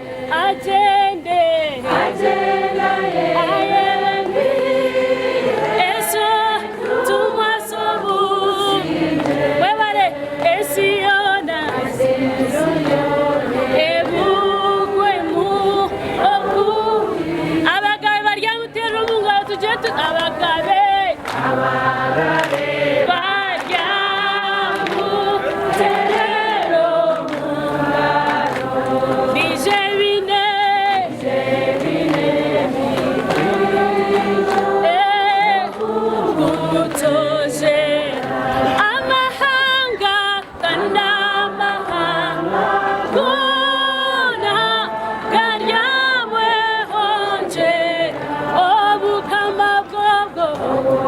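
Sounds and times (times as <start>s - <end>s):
choir singing: 0.0s - 51.0s.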